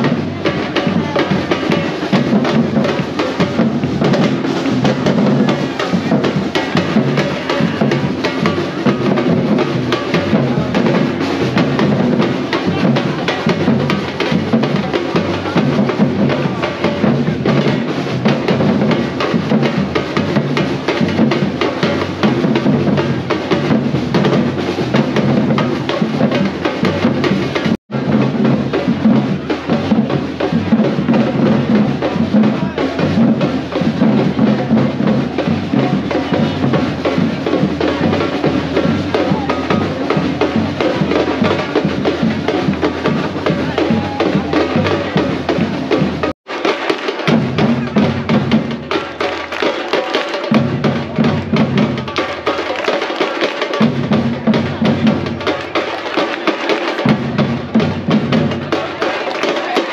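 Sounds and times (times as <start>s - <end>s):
drum percussion music: 0.0s - 59.9s.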